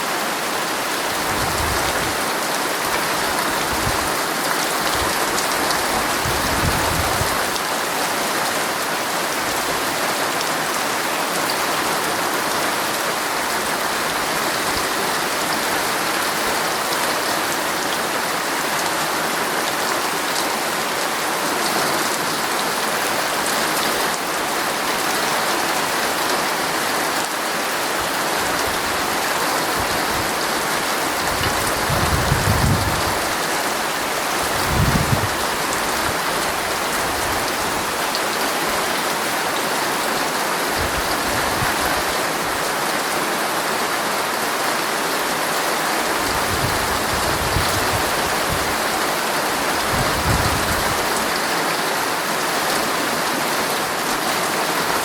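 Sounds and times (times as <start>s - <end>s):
heavy rain drumming on tent fabric: 0.0s - 55.0s.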